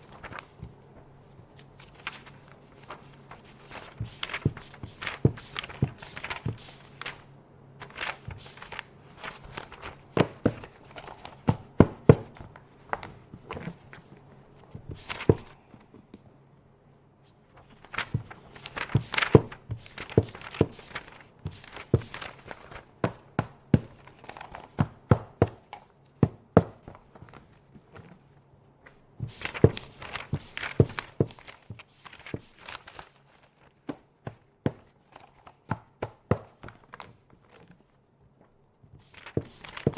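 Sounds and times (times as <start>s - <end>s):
paper rustling and shuffling: 0.0s - 16.3s, 17.2s - 39.9s.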